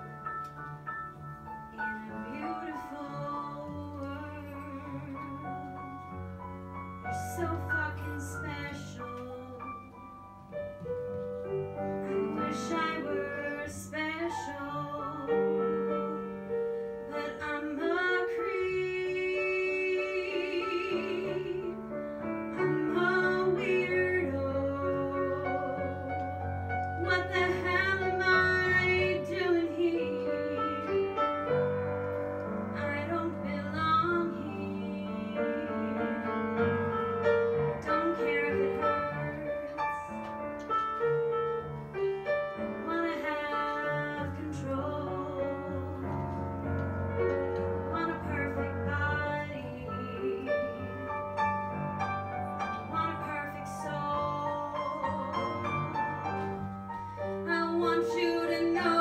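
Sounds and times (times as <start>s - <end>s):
grand piano accompaniment: 0.0s - 59.0s.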